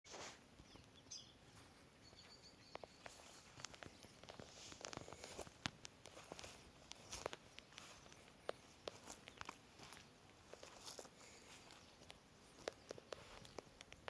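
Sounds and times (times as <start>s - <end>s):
faint clicks and crackles: 2.7s - 14.0s.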